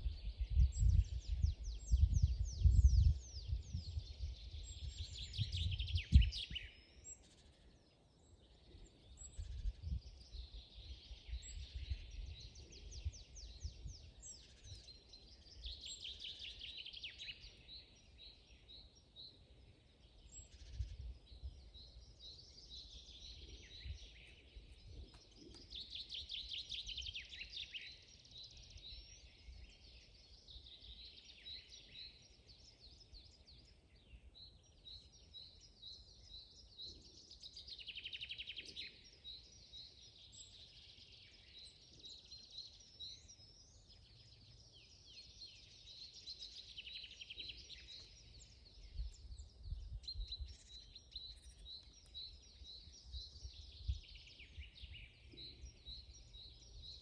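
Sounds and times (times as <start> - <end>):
wind rumble on microphone: 0.0 - 7.6, 8.4 - 57.0
songbirds chirping and trilling: 0.0 - 57.0.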